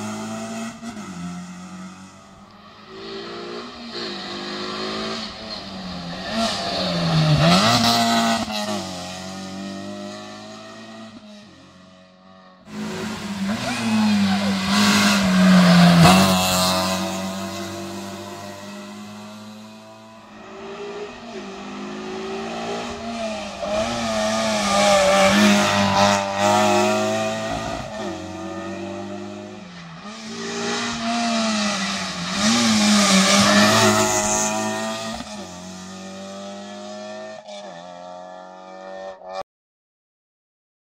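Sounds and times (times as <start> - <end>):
car engine at high revs: 0.0 - 11.5, 12.6 - 39.4.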